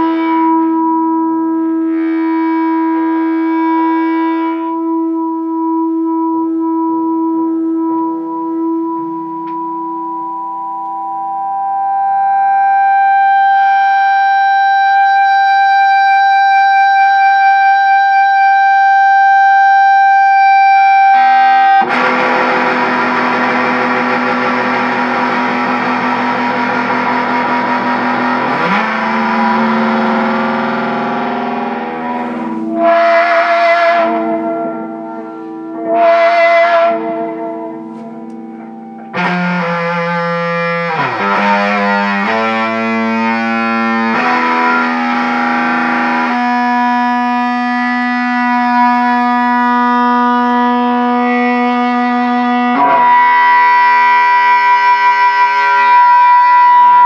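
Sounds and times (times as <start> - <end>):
distorted electric guitar: 0.0 - 57.0
loud distorted guitar chords: 0.0 - 57.0
sustained high guitar tone: 0.0 - 57.0.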